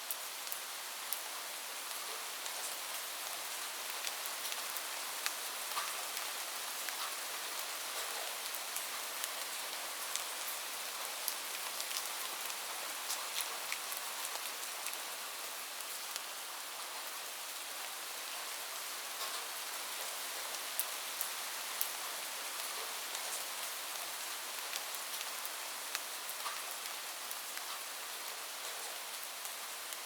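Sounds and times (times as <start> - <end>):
rain falling: 0.0 - 30.0
raindrops ticking on surface: 0.1 - 17.1, 19.1 - 30.0.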